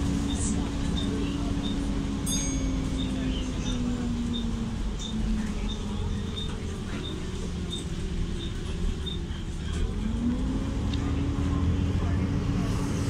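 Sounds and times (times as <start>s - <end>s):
bus engine cooling fan humming: 0.0s - 13.0s.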